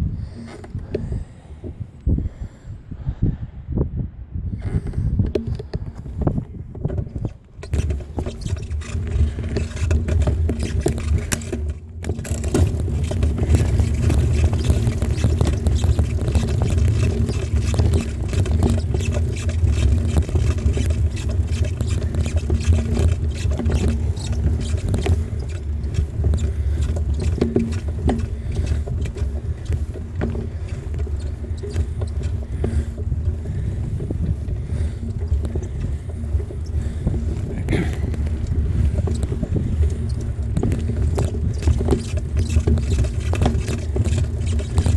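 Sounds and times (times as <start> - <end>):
bicycle rattling: 0.0 - 2.5, 4.6 - 44.9
bicycle tyre noise: 0.0 - 3.5, 4.5 - 44.9
wind rumble on microphone: 0.0 - 44.9.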